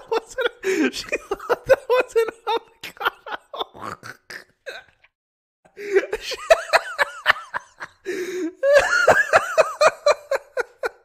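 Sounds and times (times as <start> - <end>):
man laughing: 0.0 - 3.9, 5.8 - 11.0.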